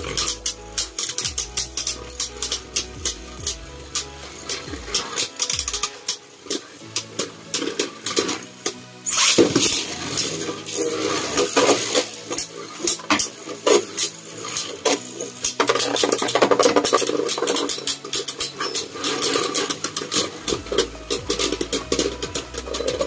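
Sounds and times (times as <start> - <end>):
spinning tops clashing and grinding: 0.0 - 23.0.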